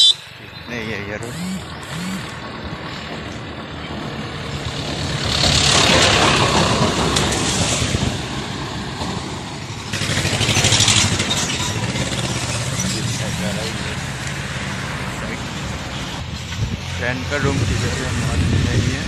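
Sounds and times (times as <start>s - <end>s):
truck engine passing: 0.0s - 19.0s
vehicles passing close by: 0.0s - 19.0s.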